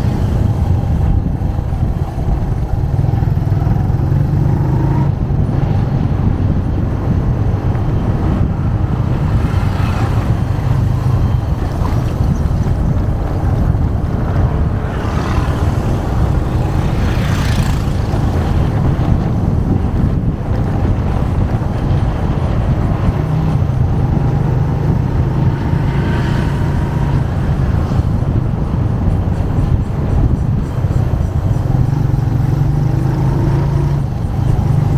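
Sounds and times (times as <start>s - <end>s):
motorcycle engine running: 0.0s - 34.9s
road and wind noise: 0.0s - 34.9s.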